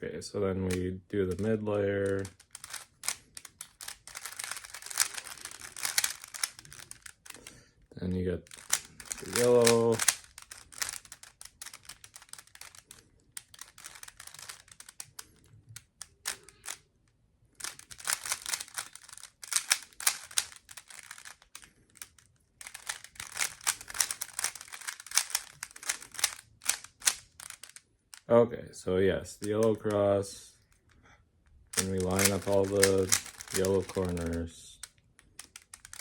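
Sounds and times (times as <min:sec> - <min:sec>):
puzzle cube clicking: 0:00.7 - 0:07.6, 0:08.4 - 0:16.9, 0:17.6 - 0:28.3, 0:31.7 - 0:36.0.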